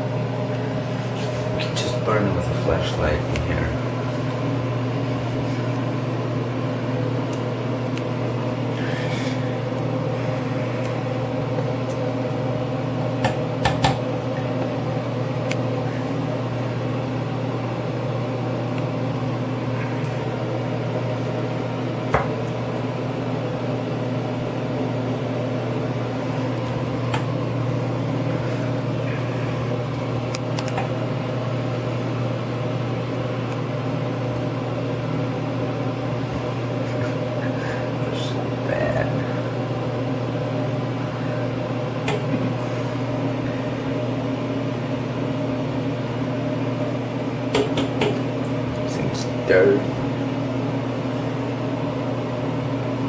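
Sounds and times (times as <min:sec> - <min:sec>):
fan motor humming: 0:00.0 - 0:53.0.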